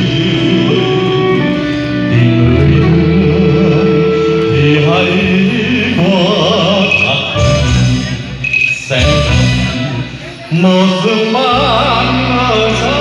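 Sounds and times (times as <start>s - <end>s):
ballad backing music over pa: 0.0s - 13.0s
man singing with vibrato: 0.0s - 13.0s.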